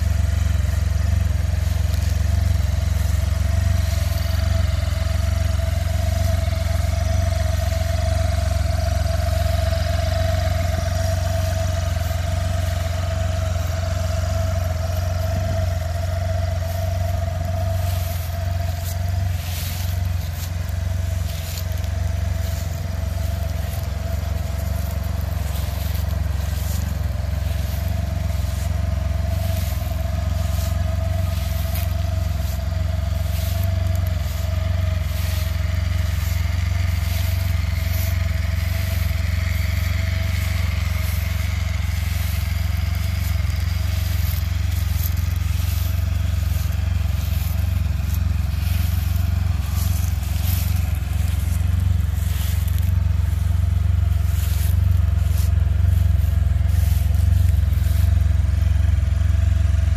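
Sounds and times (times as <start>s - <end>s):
dry leaves crunching underfoot: 0.0s - 59.9s
motorcycle engine idling: 0.0s - 59.9s.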